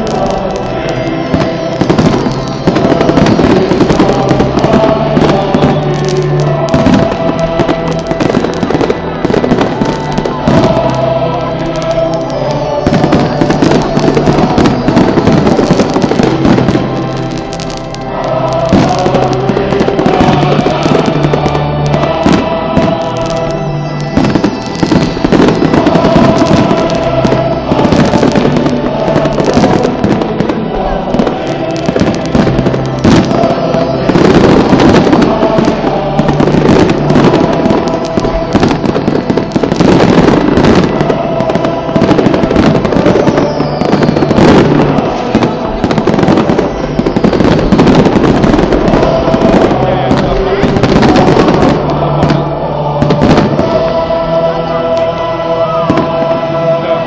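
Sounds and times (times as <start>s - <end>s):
fireworks bangs and crackles: 0.0s - 57.0s
music playing: 0.0s - 57.0s.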